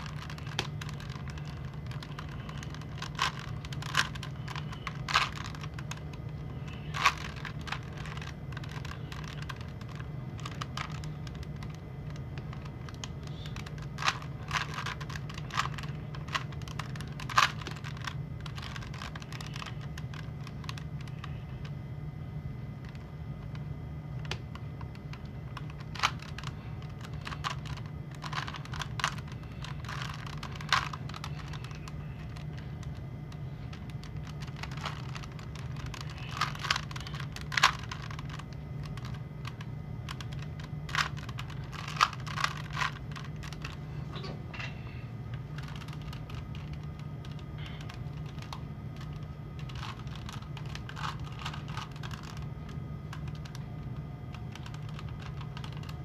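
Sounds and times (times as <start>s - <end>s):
puzzle cube clicking: 0.0s - 21.6s, 24.2s - 33.0s, 33.7s - 43.8s, 45.4s - 56.0s
steady low hum: 0.0s - 56.0s.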